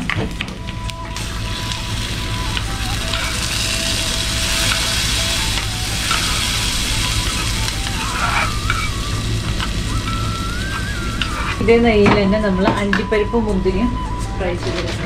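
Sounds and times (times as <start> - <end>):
coconut sizzling in hot fat: 0.0 - 13.0.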